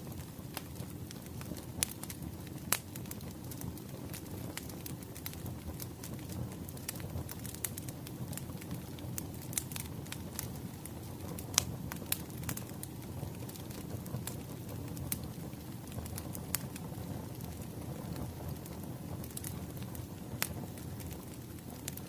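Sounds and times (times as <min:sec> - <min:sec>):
low rumble of burning logs: 0:00.0 - 0:22.0
wood fire crackling: 0:00.0 - 0:22.0.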